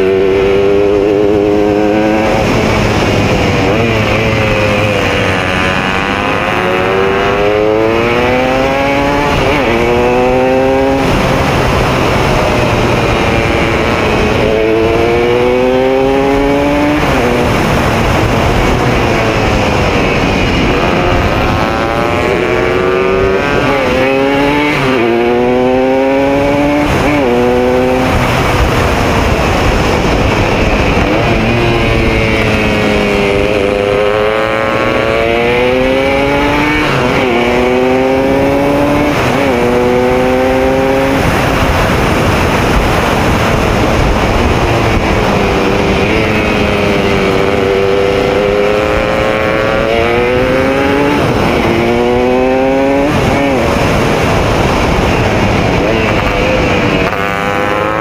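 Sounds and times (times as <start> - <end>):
racing motorcycle engine: 0.0 - 58.0
wind rush: 0.0 - 58.0.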